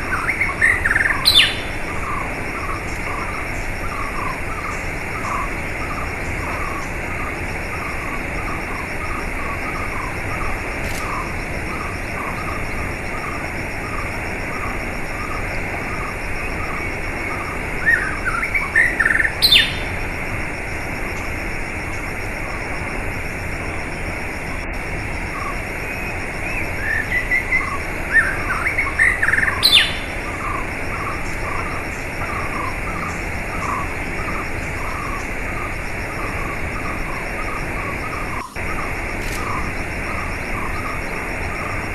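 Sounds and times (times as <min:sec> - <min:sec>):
songbirds chirping and singing: 0:00.0 - 0:20.0, 0:25.4 - 0:41.8.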